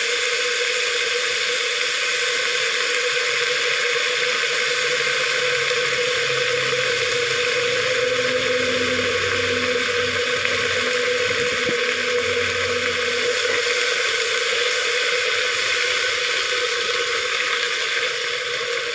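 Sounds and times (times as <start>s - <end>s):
greens sizzling in hot oil: 0.0s - 18.9s.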